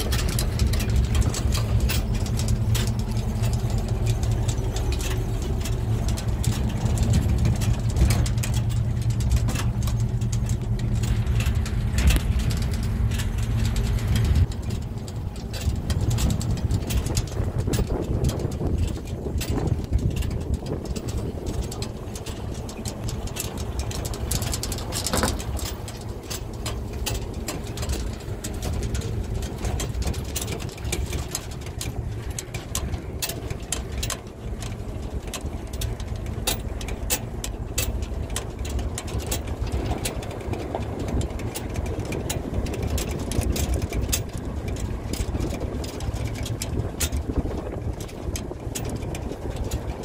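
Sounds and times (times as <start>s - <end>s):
cargo bed rattling and knocking: 0.0s - 50.0s
truck engine and road rumble: 0.0s - 50.0s.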